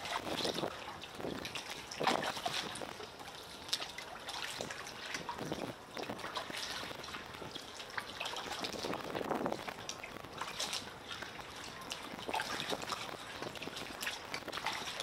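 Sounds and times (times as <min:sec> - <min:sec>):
paddle stroke splashes: 0:00.0 - 0:15.0
water lapping: 0:00.0 - 0:15.0
water trickling and splashing: 0:00.0 - 0:15.0.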